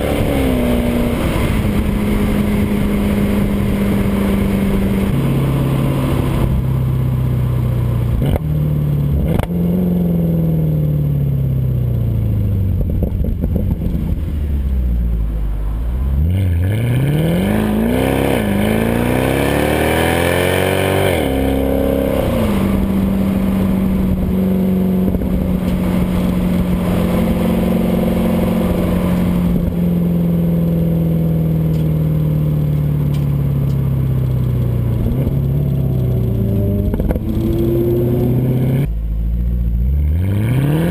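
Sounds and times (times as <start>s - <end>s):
car engine accelerating and cruising: 0.0s - 40.9s.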